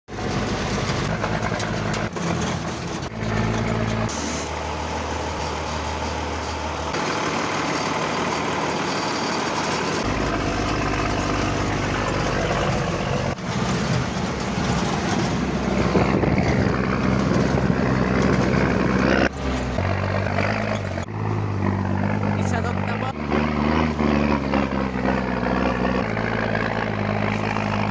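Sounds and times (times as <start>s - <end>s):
truck engine drone: 0.1s - 27.9s.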